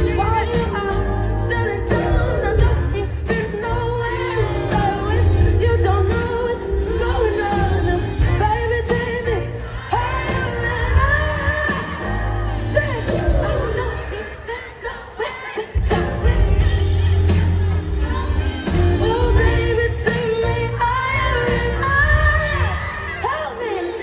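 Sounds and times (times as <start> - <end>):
bass guitar: 0.0 - 14.1, 15.8 - 23.4
drums: 0.0 - 24.0
woman singing: 0.0 - 24.0.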